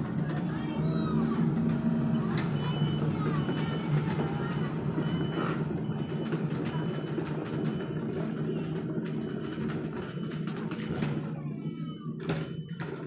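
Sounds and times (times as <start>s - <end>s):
excavator diesel engine rattling: 0.0s - 13.0s.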